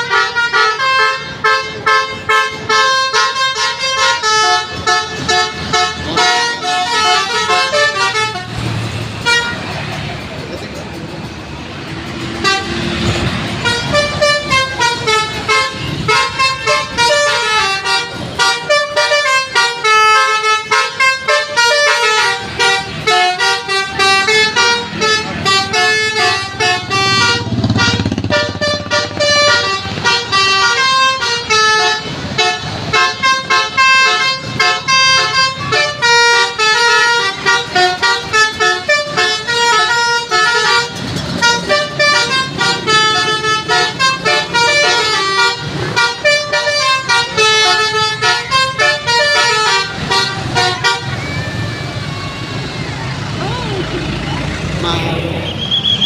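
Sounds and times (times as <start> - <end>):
musical air horn playing a tune: 0.0 - 9.7, 12.3 - 52.7.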